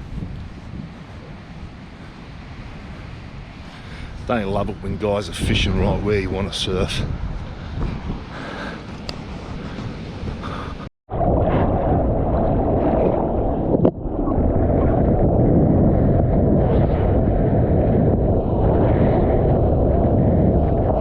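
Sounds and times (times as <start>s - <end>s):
wind and water buffeting microphone: 0.0s - 21.0s.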